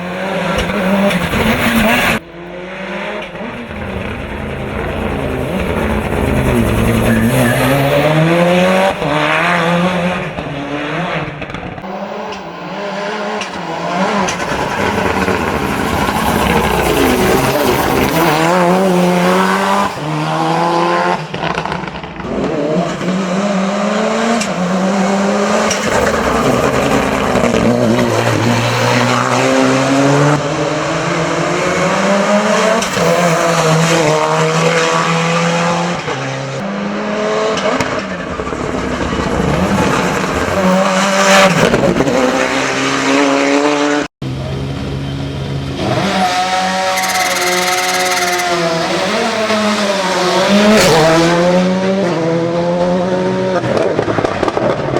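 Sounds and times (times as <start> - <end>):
racing car engine revving: 0.0 - 54.9.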